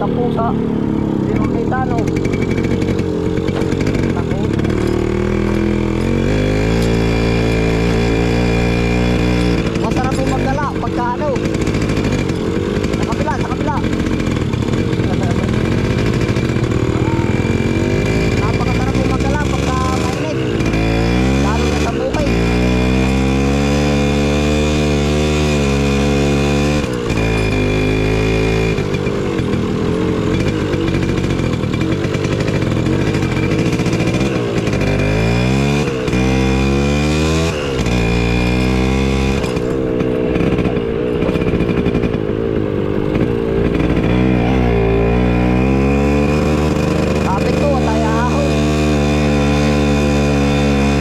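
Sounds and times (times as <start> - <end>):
small motorcycle engine running: 0.0 - 51.0.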